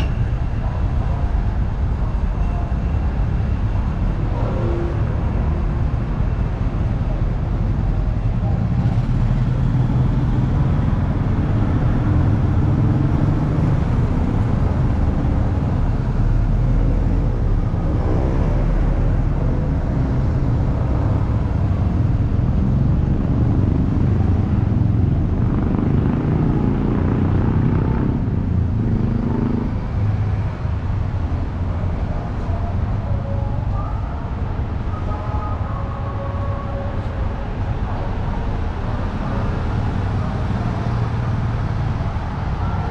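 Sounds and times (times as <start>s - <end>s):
motorcycles and cars passing: 0.0s - 42.9s.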